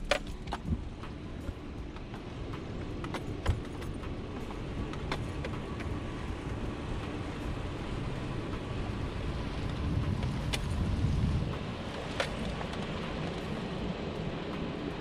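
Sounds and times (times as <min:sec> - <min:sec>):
car engine and tyres rumbling: 0:00.0 - 0:15.0
car rattling over bumps: 0:00.0 - 0:15.0.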